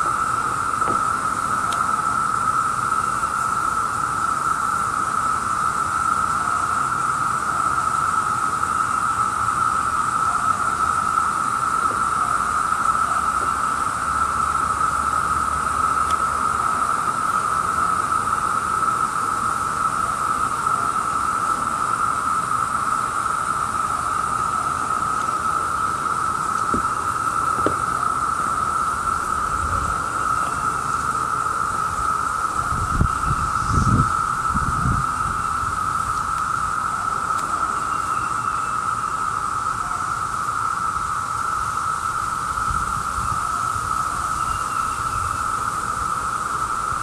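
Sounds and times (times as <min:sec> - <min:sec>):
cicadas droning: 0:00.0 - 0:47.0.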